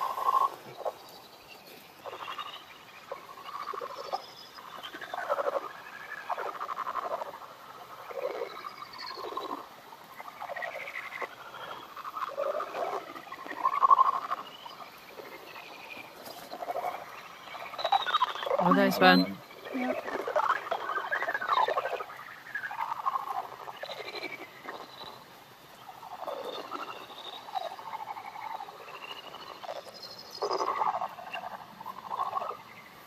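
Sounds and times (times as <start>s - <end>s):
bat echolocation chirps: 0.0s - 33.0s.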